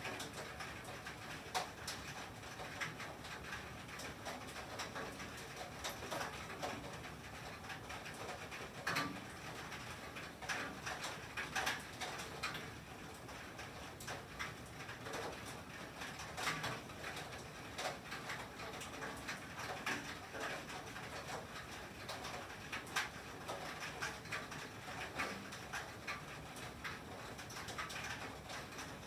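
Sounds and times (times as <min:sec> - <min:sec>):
rain and sleet on a tin roof: 0:00.0 - 0:29.0.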